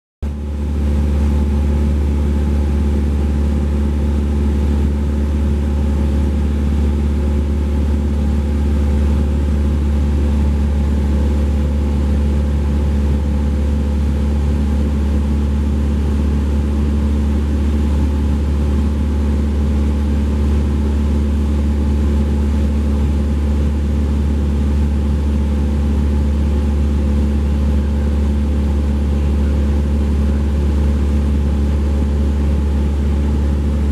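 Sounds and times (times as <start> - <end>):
light aircraft engine droning: 0.3 - 33.9.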